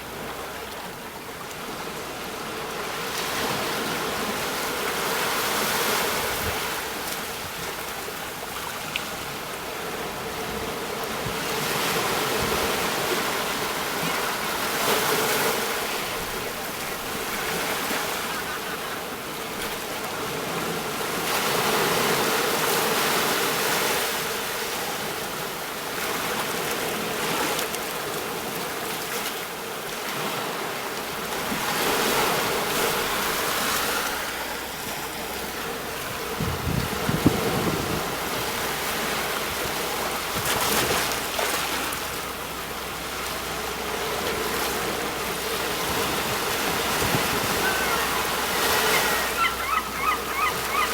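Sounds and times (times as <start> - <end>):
sea waves breaking on shore: 0.0 - 50.9.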